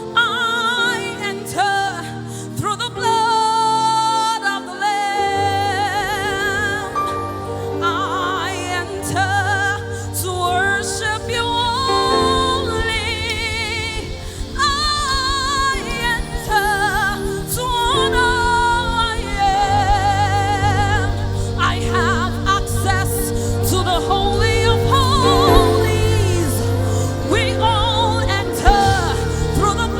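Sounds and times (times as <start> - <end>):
gospel worship music: 0.0 - 29.9
person singing with vibrato: 0.0 - 29.9.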